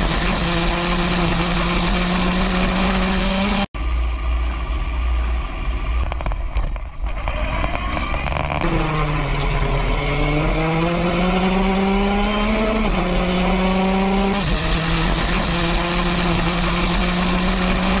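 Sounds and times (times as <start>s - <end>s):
race car engine revving: 0.0s - 3.7s, 7.0s - 18.0s.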